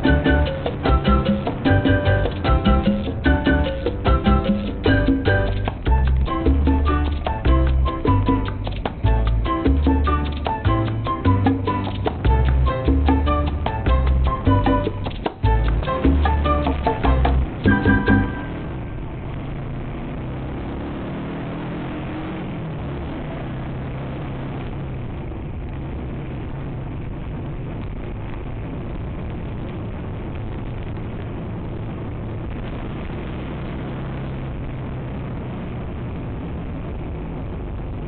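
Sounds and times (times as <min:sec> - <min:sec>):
wind noise on microphone: 0:00.0 - 0:20.7, 0:21.4 - 0:38.0.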